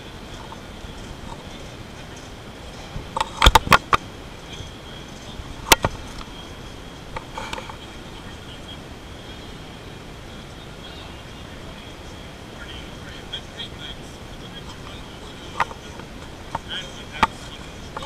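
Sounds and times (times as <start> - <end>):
hall background noise: 0.0 - 18.0.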